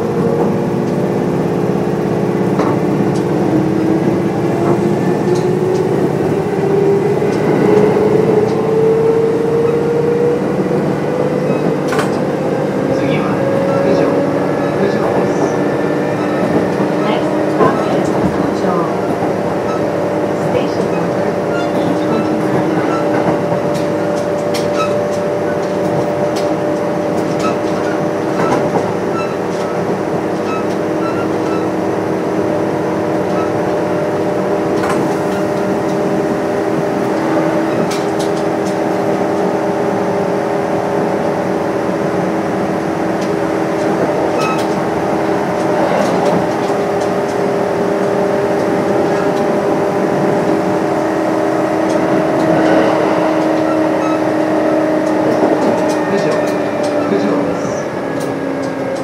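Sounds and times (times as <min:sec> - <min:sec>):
electric train hum: 0:00.0 - 0:59.0
train rolling noise: 0:00.0 - 0:59.0.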